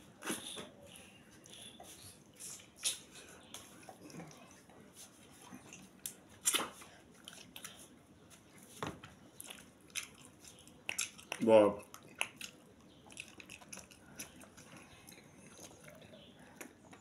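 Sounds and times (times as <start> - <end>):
lip smacks while chewing: 0.2 - 4.6, 5.2 - 8.4, 9.3 - 17.0.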